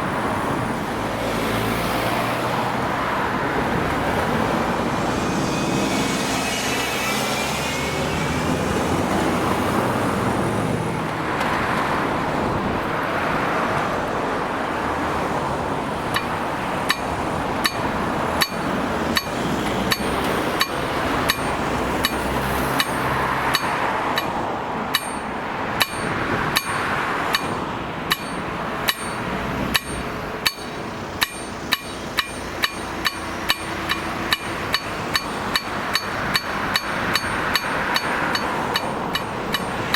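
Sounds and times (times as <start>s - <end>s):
train rolling past: 0.0s - 39.9s
crossing warning bell ringing: 2.2s - 11.1s, 14.9s - 39.9s.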